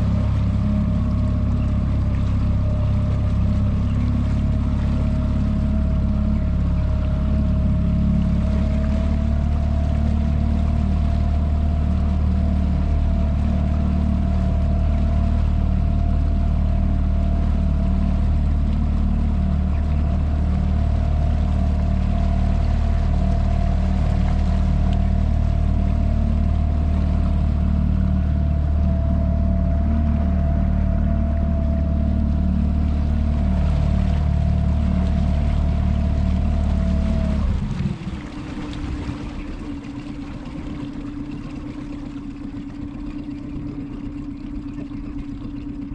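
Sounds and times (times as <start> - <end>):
motorboat engine droning: 0.0 - 45.9.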